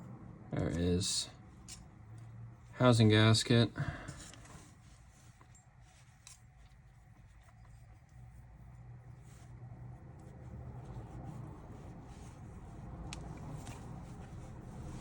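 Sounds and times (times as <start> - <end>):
low steady rumble: 0.0 - 15.0
rubbing and handling of parts: 0.6 - 15.0.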